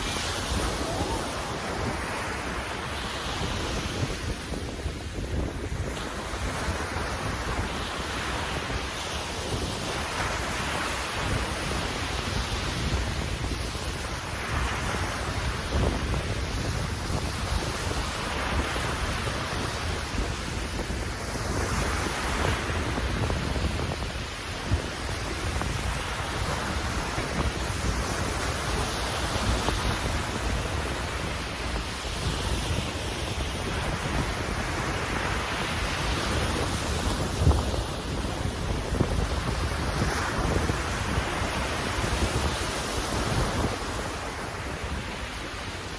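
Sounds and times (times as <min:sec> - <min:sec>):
sea waves washing in: 0:00.0 - 0:45.9
wind rumbling on microphone: 0:00.0 - 0:45.9.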